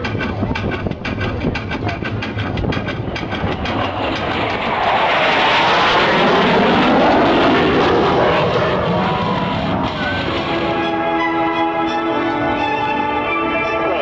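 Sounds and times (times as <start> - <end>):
airplane flying past: 2.0 - 14.0.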